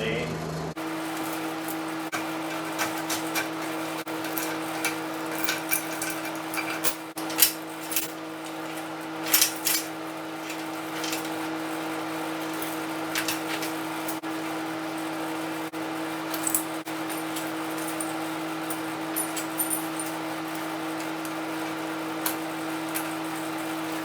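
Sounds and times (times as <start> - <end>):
steady hum: 0.0 - 24.0
metal tools clinking: 0.9 - 14.2, 16.3 - 24.0.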